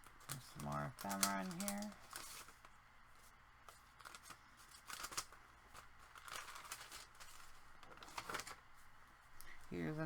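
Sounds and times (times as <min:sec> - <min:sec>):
paper rustling: 0:00.2 - 0:08.8.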